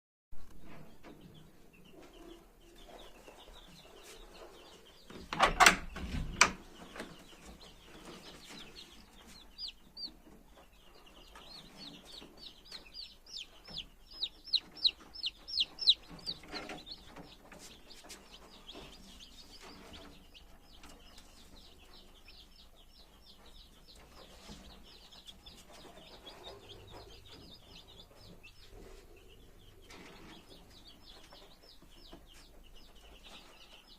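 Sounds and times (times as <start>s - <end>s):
chicks peeping: 0.4s - 33.9s.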